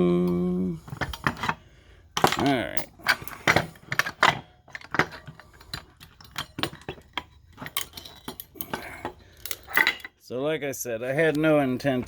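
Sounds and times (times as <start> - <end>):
metal parts clinking: 0.3 - 10.2.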